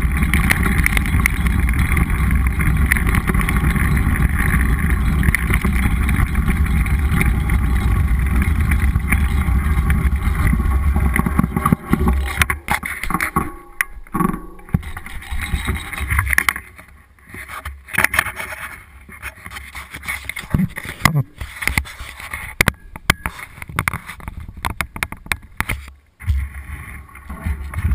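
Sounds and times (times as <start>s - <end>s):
bike clicks and rattles: 0.0s - 27.9s.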